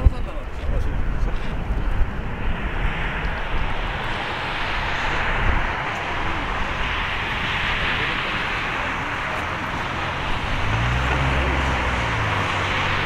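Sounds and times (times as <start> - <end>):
loud jet engine roar: 0.0 - 13.0.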